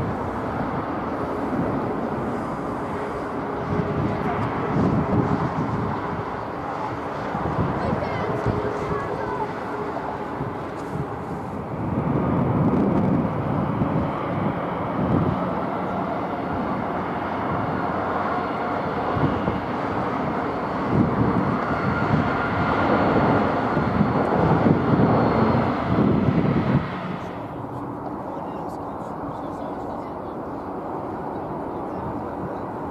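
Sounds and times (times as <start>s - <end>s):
airliner engines running: 0.0s - 32.9s.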